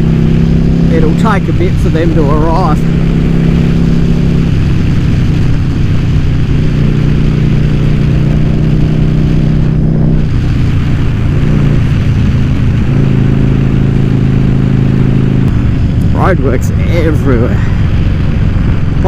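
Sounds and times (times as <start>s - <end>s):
motorcycle engine cruising: 0.0s - 19.0s
rushing wind noise: 0.0s - 19.0s.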